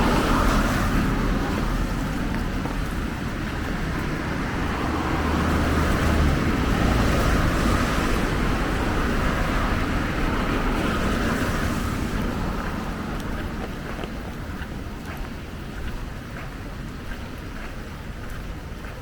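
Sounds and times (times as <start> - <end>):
car tyres hissing on wet road: 0.0 - 15.7
steady rainfall: 0.0 - 19.0.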